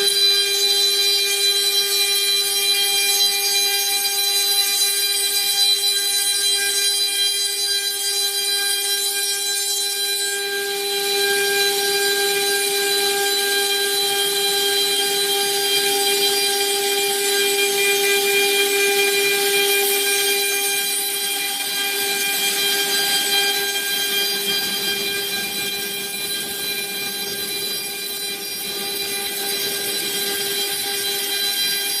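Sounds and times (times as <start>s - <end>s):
machine spindle high-pitched whine: 0.0s - 32.0s.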